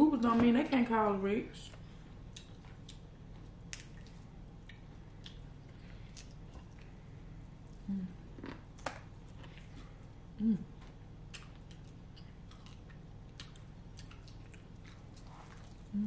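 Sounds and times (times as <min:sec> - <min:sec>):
chewing and crunching food: 0:01.7 - 0:10.1, 0:10.7 - 0:16.0.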